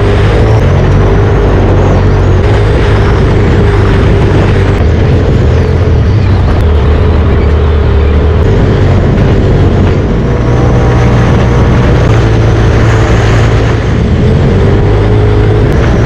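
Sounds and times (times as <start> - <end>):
engine drone: 0.0 - 16.0
terrain rumble: 0.0 - 16.0
wind: 0.0 - 16.0.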